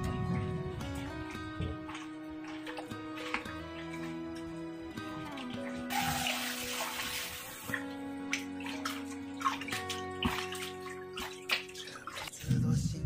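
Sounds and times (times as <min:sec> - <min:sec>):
background music with held notes: 0:00.0 - 0:13.0
water splashing in bowl: 0:00.9 - 0:12.6.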